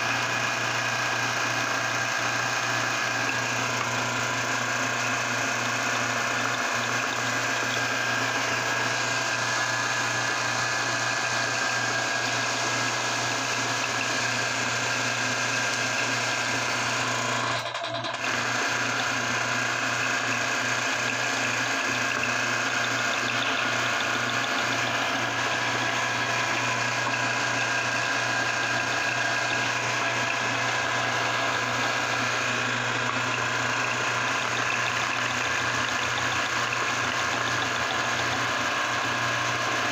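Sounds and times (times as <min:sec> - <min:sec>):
electric meat grinder running: 0:00.0 - 0:39.9.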